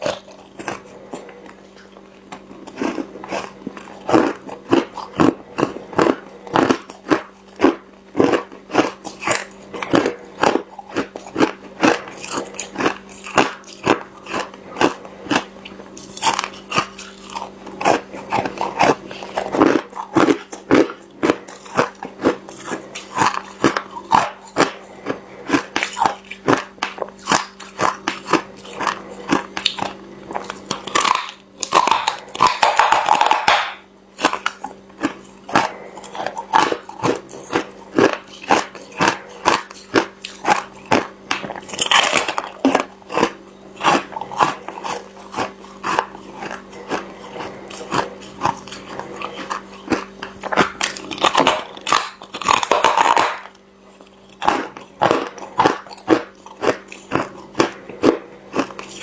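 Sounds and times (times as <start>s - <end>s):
ice crunching while chewed: 0.0s - 59.0s
low steady hum: 0.0s - 59.0s.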